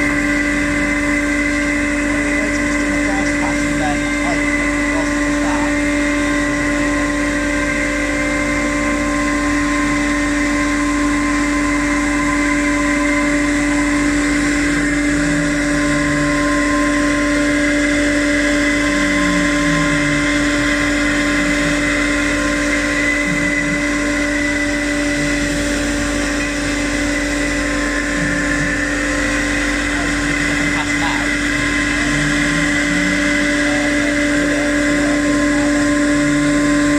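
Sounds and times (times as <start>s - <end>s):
machine motor whine: 0.0s - 36.9s.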